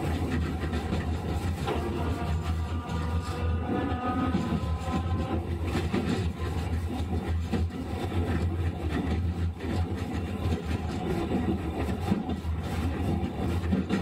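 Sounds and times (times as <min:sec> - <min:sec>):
tram hum and rumble: 0:00.0 - 0:14.0.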